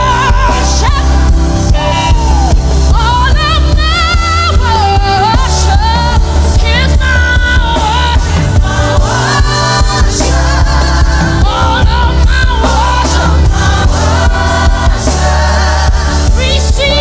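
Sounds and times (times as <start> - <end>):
band with heavy bass: 0.0 - 17.0
choir singing gospel music: 0.0 - 17.0
steady drum beat: 0.0 - 17.0.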